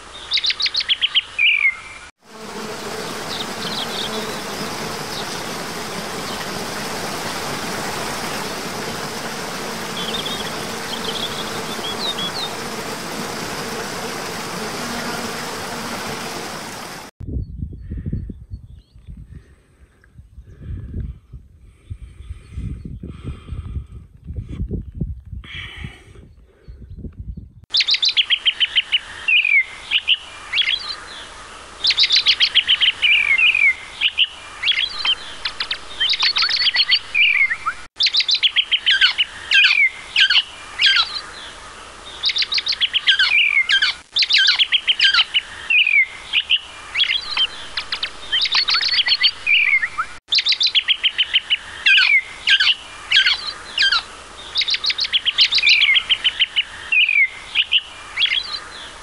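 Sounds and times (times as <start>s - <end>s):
songbird singing: 0.0s - 19.1s, 26.2s - 59.0s.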